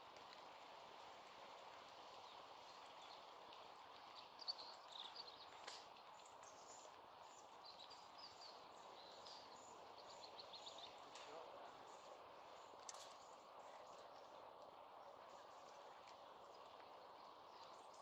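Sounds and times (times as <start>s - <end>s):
small birds chirping: 2.1s - 18.0s.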